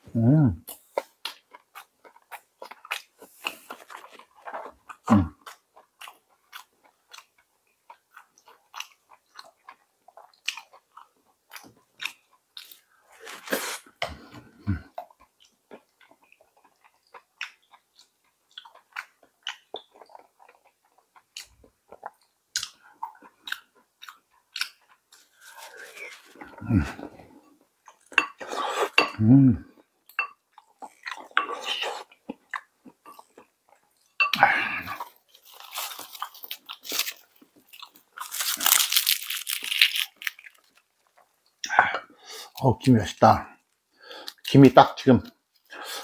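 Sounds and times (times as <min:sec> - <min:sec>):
person chewing crunchy food: 0:00.6 - 0:41.7.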